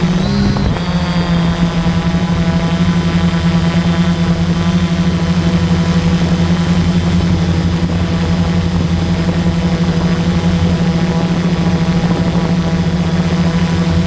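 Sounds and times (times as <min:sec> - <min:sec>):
drone propellers humming: 0:00.0 - 0:14.0.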